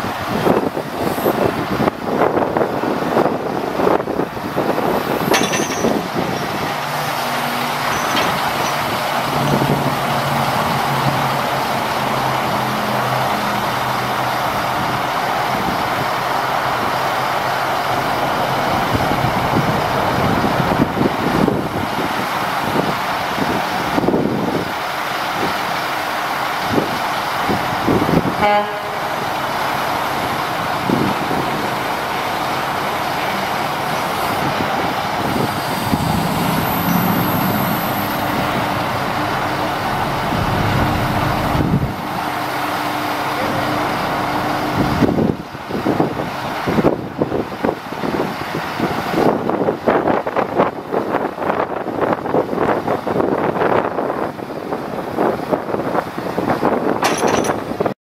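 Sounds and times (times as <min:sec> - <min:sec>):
diesel engine running: 0:00.0 - 0:57.9
crane hydraulics: 0:00.2 - 0:48.2.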